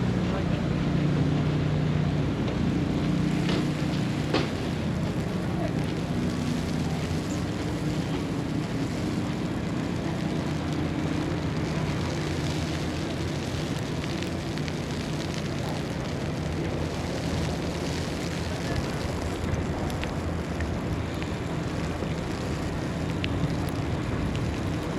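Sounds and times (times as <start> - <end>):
constant hiss: 0.0 - 24.9
low mechanical rumble and hum: 0.0 - 24.9.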